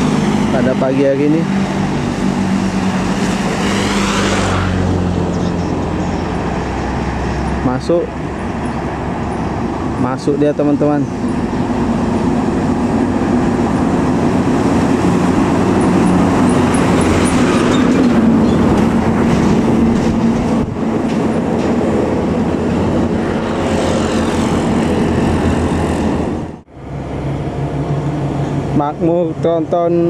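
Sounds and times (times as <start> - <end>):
heavy vehicle passing: 0.0 - 29.7
diesel engine hum: 0.0 - 30.0.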